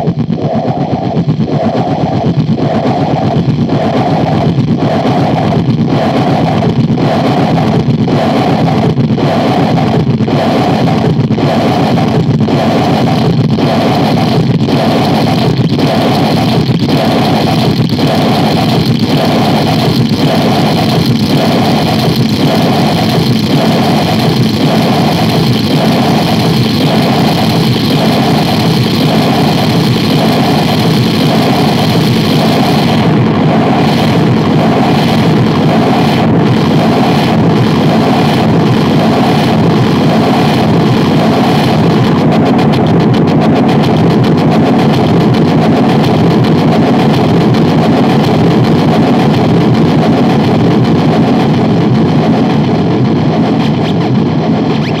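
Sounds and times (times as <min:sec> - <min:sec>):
pulsing mid-pitched tone: 0:00.0 - 0:49.4, 0:53.5 - 0:55.0
distorted synthesizer noise drone: 0:00.0 - 0:55.0.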